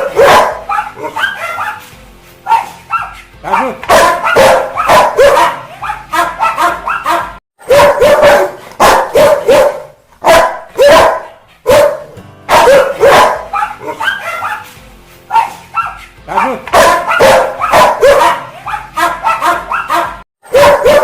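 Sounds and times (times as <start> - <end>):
dog barking aggressively: 0.0 - 1.8, 2.5 - 14.7, 15.3 - 21.0.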